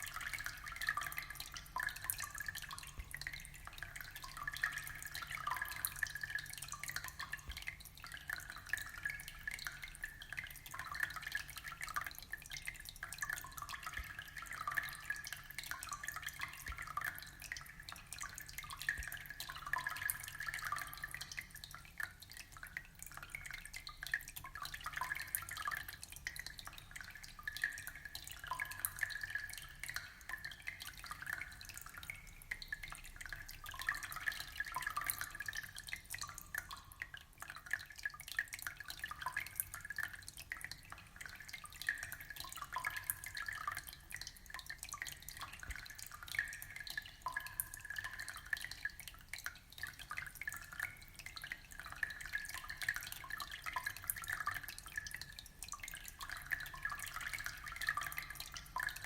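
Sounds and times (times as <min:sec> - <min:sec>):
low steady hum: 0:00.0 - 0:59.0
water dripping and bubbling: 0:00.0 - 0:59.0.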